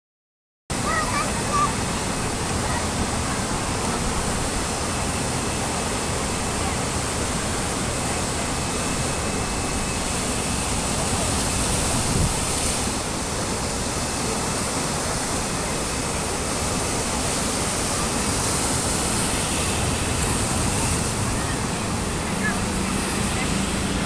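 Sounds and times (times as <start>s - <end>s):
sea waves surging: 0.7s - 24.0s.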